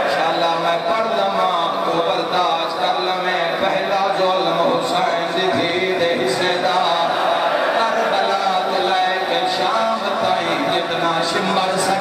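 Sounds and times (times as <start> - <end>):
man chanting through loudspeakers: 0.0 - 12.0.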